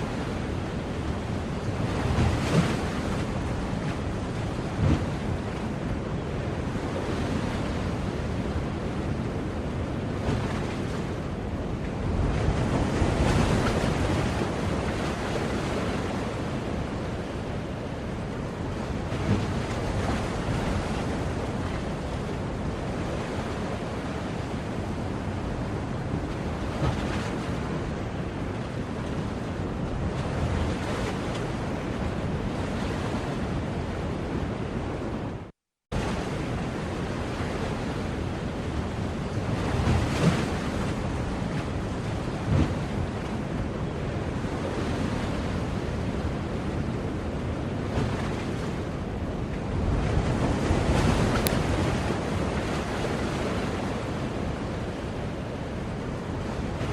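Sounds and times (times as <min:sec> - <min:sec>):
ocean waves washing ashore: 0:00.0 - 0:56.9.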